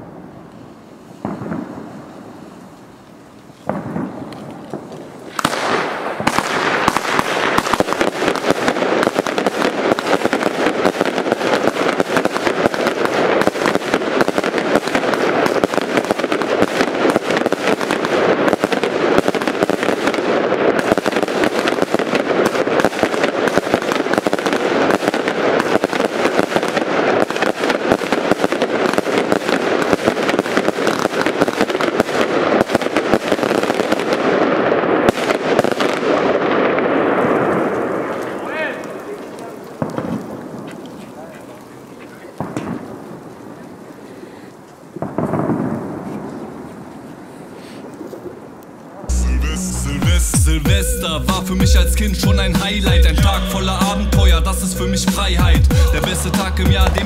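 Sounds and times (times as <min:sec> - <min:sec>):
fireworks shots and bursts: 0:00.0 - 0:57.0.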